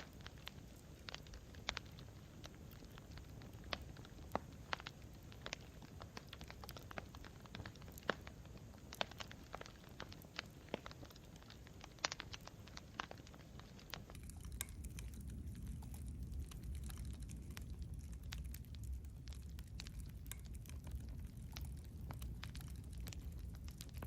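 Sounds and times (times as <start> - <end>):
burning wood popping and snapping: 0.0 - 24.0
low rumble of flames: 0.0 - 24.0.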